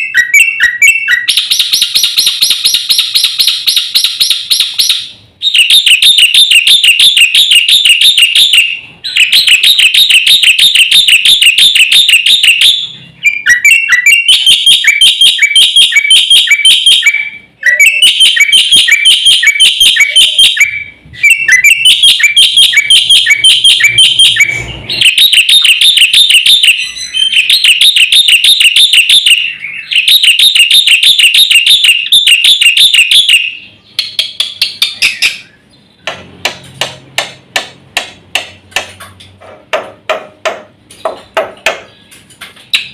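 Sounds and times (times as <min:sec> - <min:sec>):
bird rapid high chirps: 0:00.0 - 0:36.1.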